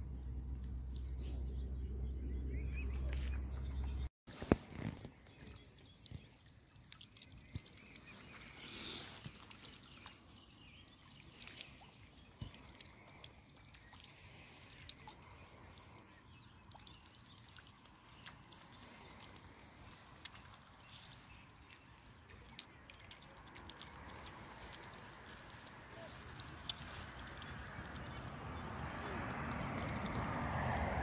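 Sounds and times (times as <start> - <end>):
swans dabbling and splashing: 2.4 - 31.0.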